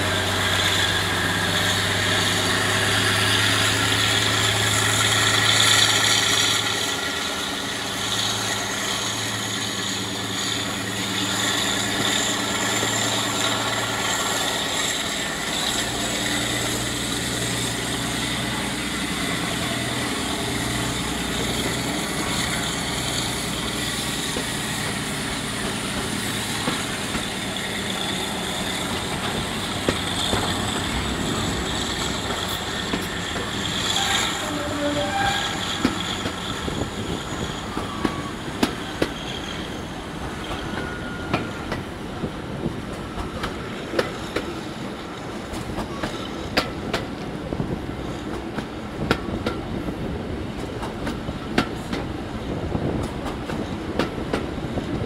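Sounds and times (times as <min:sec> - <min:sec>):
diesel locomotive engines running: 0:00.0 - 0:55.0
train wheel noise: 0:00.0 - 0:55.0.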